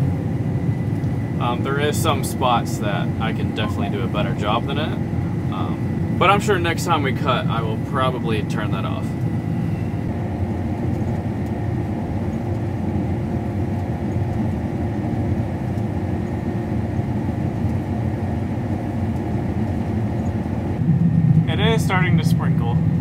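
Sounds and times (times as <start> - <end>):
combine harvester engine drone: 0.0 - 23.0
faint steady whine: 0.0 - 23.0.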